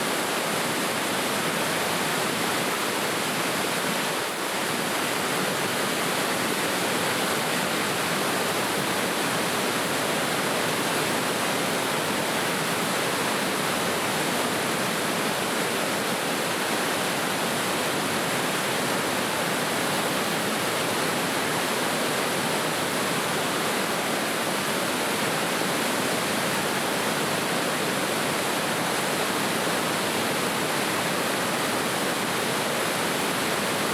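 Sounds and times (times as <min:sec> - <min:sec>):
rushing river water: 0:00.0 - 0:33.9.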